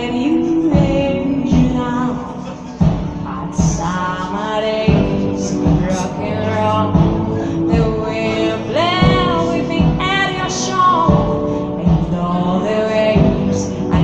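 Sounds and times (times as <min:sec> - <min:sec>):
backing music: 0:00.0 - 0:14.0
person singing a slow ballad: 0:00.0 - 0:14.0
low drum beat: 0:00.6 - 0:02.2, 0:02.8 - 0:04.2, 0:04.8 - 0:14.0.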